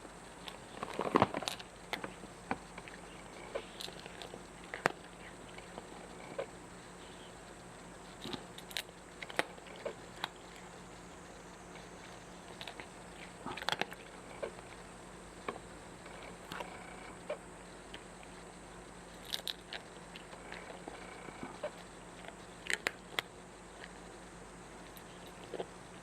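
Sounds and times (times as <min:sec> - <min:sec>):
cat chewing and crunching: 0:00.0 - 0:26.0.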